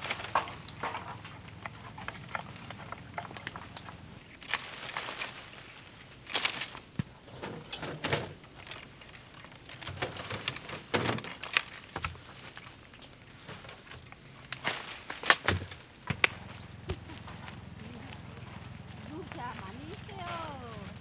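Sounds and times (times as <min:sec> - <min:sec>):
branches and leaves rustling: 0:00.0 - 0:21.0.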